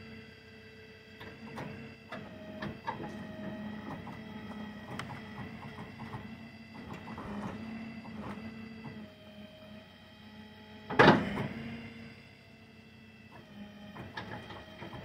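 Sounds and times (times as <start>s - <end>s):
hydraulic unit humming and whining: 0.0s - 15.0s.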